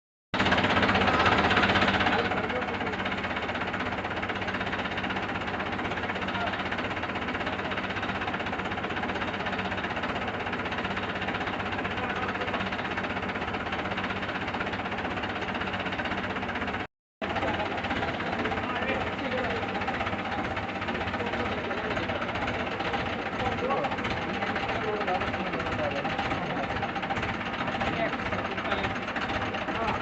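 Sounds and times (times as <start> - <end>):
engine idling with knocking: 0.4 - 30.0.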